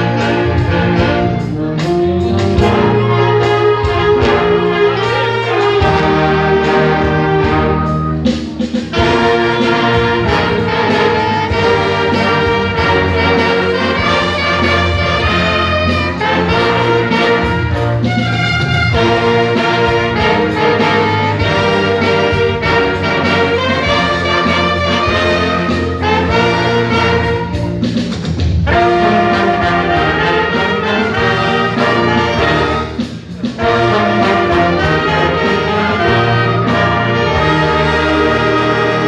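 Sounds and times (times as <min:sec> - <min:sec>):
orchestra with brass playing: 0:00.0 - 0:39.0.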